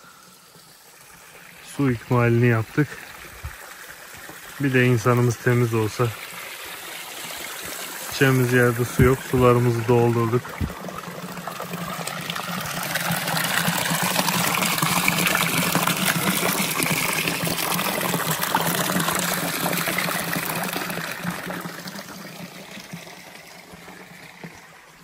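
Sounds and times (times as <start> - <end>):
water splashing into trough: 2.8 - 24.9.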